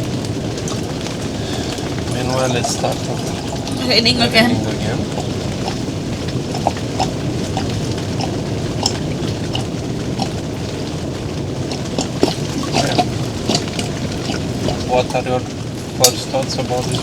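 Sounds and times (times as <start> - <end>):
raindrops ticking: 0.0 - 17.0
steady rain rush: 0.0 - 17.0.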